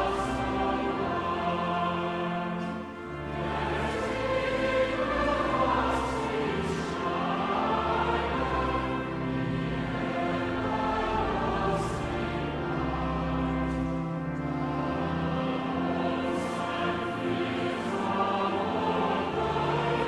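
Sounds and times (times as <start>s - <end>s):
choir singing: 0.0s - 20.0s
sustained instrumental accompaniment: 0.0s - 20.0s.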